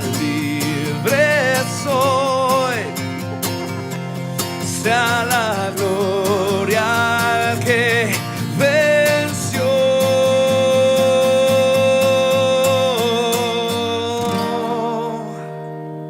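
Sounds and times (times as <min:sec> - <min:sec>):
person singing: 0:00.0 - 0:15.8
guitar: 0:00.0 - 0:16.0.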